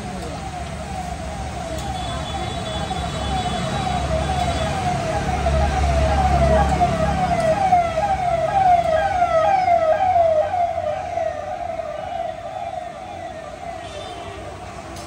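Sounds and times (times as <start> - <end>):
electronic vehicle siren wailing: 0.0 - 14.7.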